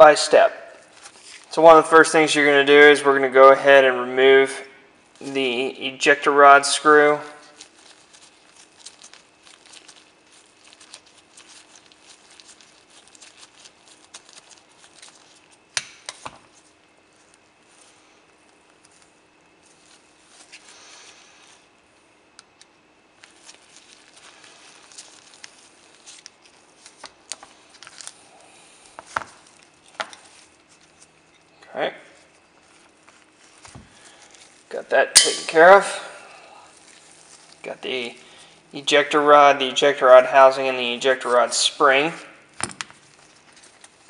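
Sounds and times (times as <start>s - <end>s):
rubber gloves rustling: 0.0s - 44.0s.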